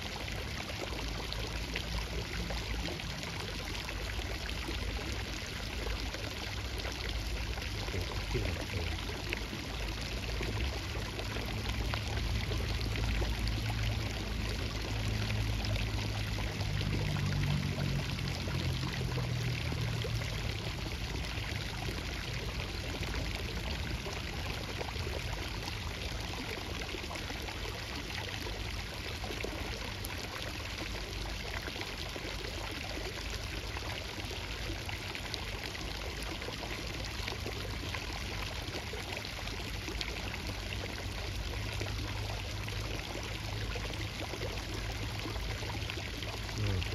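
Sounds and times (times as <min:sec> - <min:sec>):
flowing pouring water: 0:00.0 - 0:46.9.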